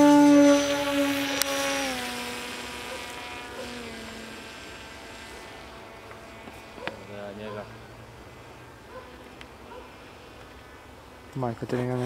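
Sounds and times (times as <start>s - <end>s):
model plane motor whining: 0.0s - 10.7s.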